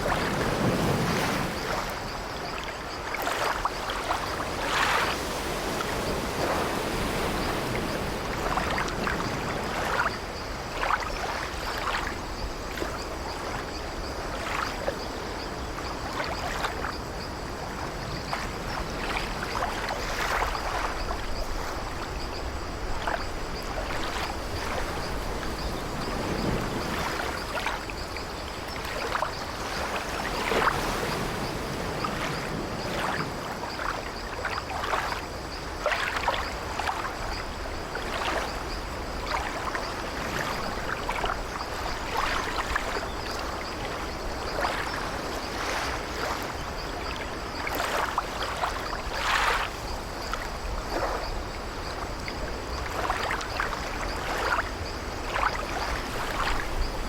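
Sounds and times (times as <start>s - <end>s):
waves washing against ship: 0.0s - 57.0s.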